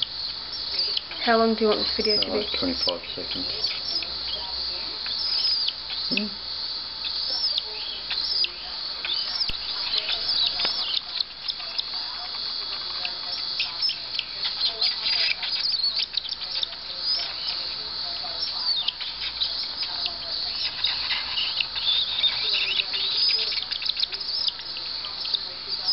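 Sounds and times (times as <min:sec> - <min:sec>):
bird chick chirping begging calls: 0:00.0 - 0:25.9.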